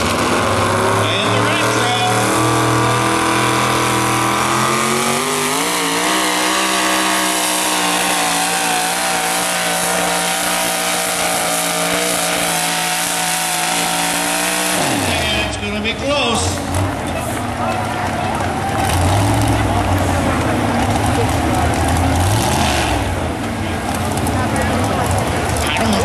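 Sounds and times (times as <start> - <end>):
truck engine at full throttle: 0.0 - 26.0.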